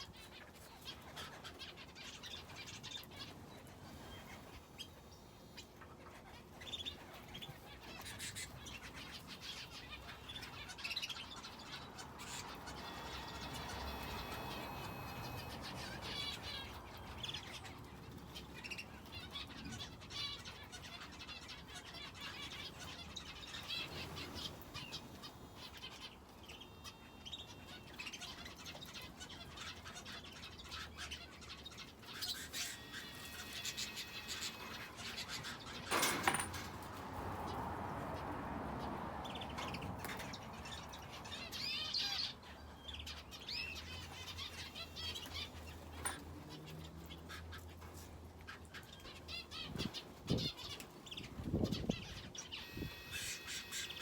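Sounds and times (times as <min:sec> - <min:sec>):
finches and canary chirping: 0:00.0 - 0:54.0.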